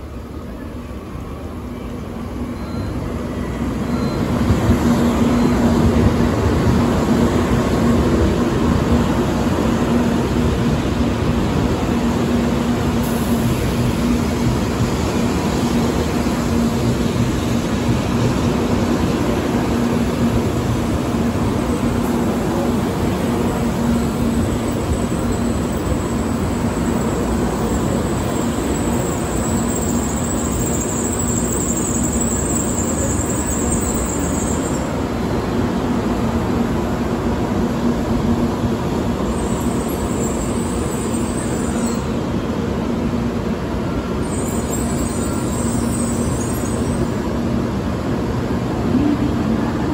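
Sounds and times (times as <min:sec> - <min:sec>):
train rumble with low hum: 0:00.0 - 0:49.9.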